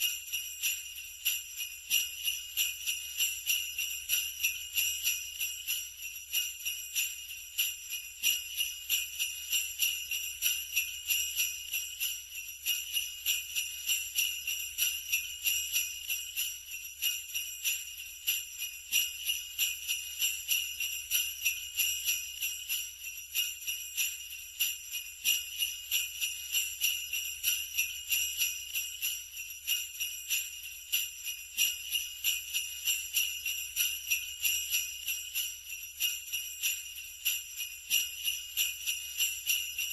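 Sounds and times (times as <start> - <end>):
sleigh bells jingling: 0.0 - 39.9.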